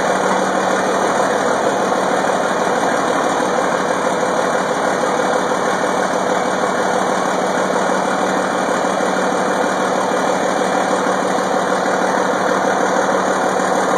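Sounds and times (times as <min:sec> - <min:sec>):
tractor diesel engine idling: 0:00.0 - 0:13.9.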